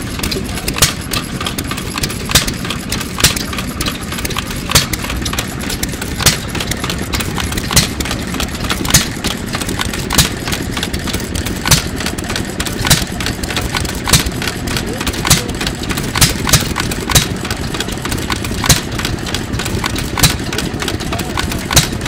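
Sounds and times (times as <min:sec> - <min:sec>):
engine firing pops: 0:00.0 - 0:22.0
valve gear clicking: 0:00.0 - 0:22.0.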